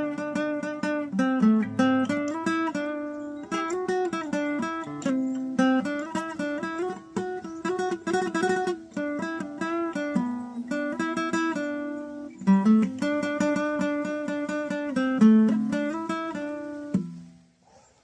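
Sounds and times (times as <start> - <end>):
guitar strum: 0.0 - 17.4
acoustic guitar fingerstyle: 0.0 - 17.8.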